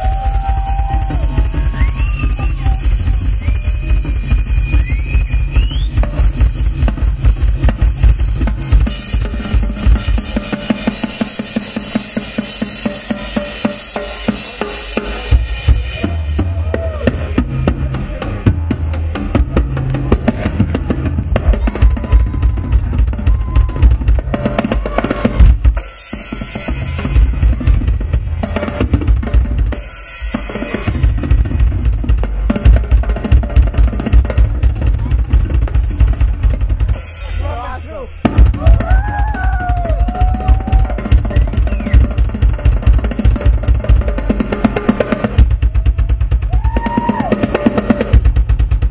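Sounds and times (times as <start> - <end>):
rock drum solo: 0.0 - 48.9.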